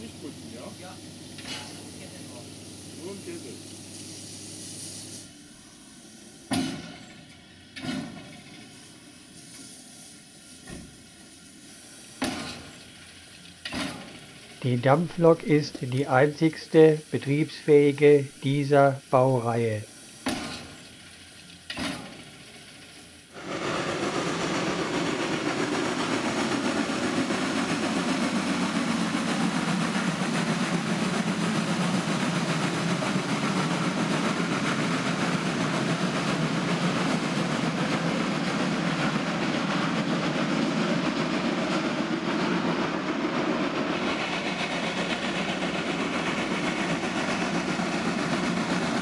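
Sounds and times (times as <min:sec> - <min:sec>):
steam locomotive exhaust rushing: 0:00.0 - 0:49.0.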